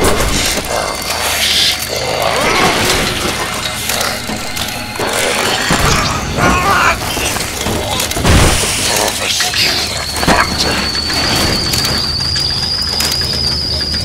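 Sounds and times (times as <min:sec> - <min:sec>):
gear clanks: 0:00.0 - 0:14.0.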